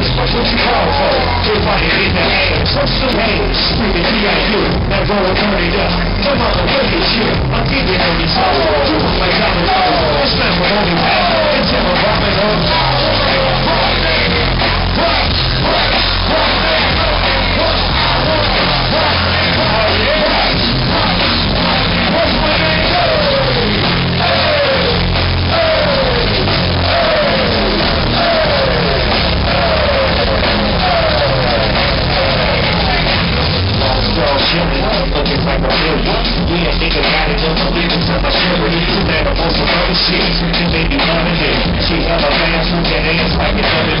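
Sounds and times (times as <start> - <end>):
heavy bass: 0.0 - 44.0
live band music over pa: 0.0 - 44.0
sung vocals: 0.0 - 44.0.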